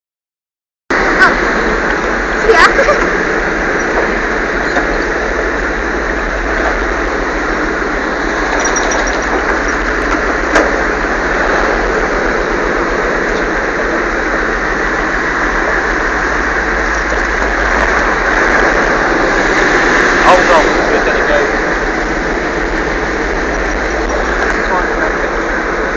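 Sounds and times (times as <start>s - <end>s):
radial engine running loudly: 0.9s - 25.9s.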